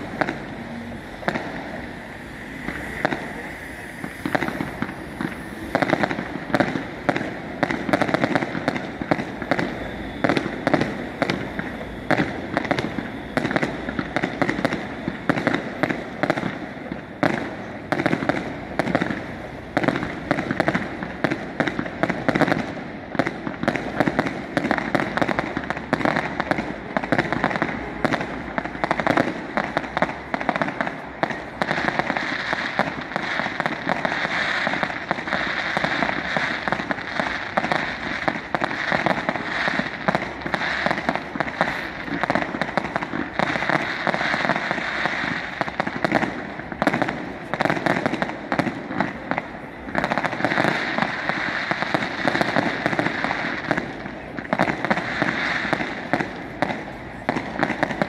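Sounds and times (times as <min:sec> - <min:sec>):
crackling hiss: 0:00.0 - 0:58.0
fireworks bangs and crackles: 0:00.0 - 0:58.0.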